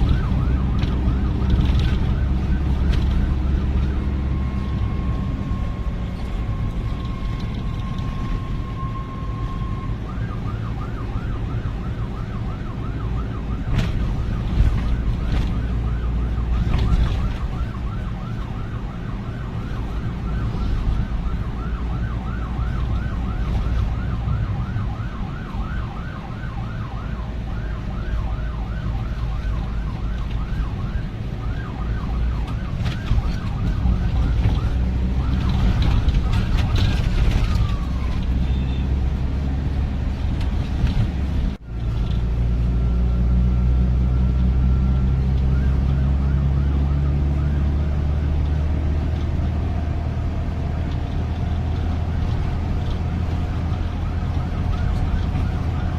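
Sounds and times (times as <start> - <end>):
heavy traffic engine rumble: 0.0 - 55.9
police siren: 0.0 - 55.9.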